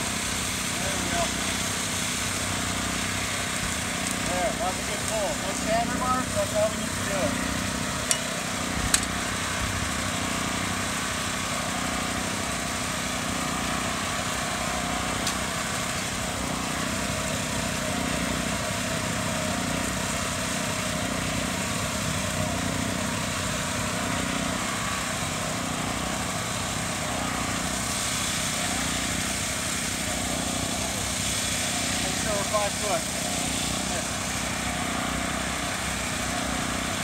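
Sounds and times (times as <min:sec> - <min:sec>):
small gasoline engine running: 0:00.0 - 0:37.0.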